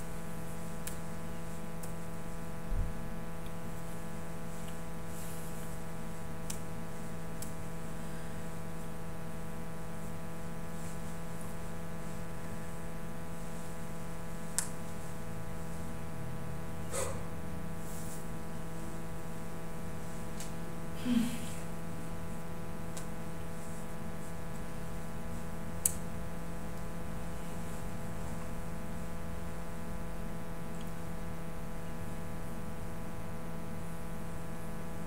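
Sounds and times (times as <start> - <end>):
steady electrical hum: 0.0 - 35.0.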